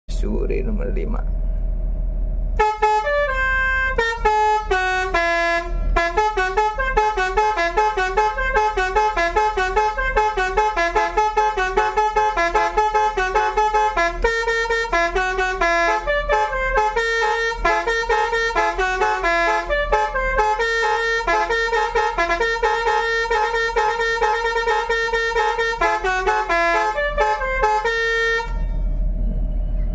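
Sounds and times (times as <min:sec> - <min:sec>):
air horn playing a melody: 0:02.6 - 0:28.8.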